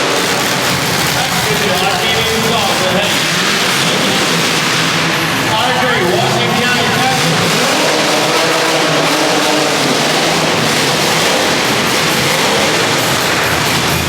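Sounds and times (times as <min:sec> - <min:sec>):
car engines revving loudly: 0:00.0 - 0:14.0.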